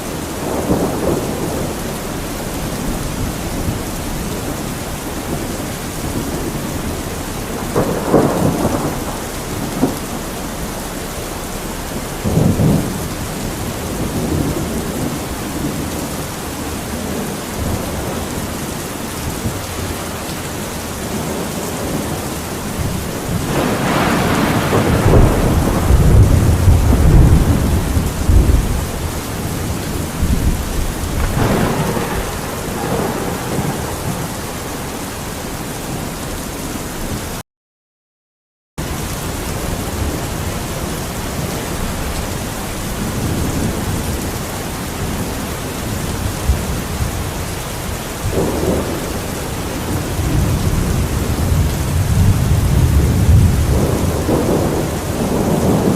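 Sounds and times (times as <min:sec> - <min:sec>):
thunder rolling: 0:00.0 - 0:18.6, 0:20.9 - 0:37.2, 0:38.8 - 0:55.9
steady rain: 0:00.0 - 0:37.4, 0:38.8 - 0:55.9.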